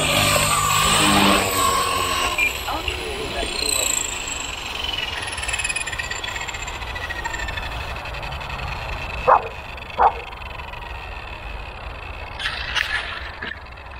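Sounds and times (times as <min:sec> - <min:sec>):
helicopter rotor whine: 0:00.0 - 0:13.9.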